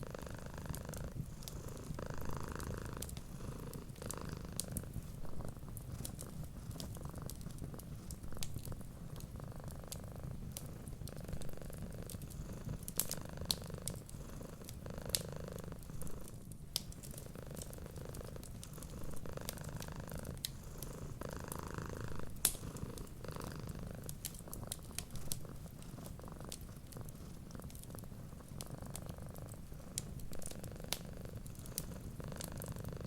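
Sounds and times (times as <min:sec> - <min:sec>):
cat purring: 0:00.0 - 0:33.0
wood fire crackling and popping: 0:00.7 - 0:32.8.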